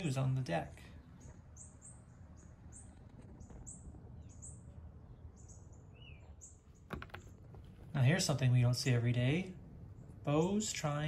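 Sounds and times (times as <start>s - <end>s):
faint low background noise: 0.0s - 11.0s
songbird chirping: 0.0s - 11.0s.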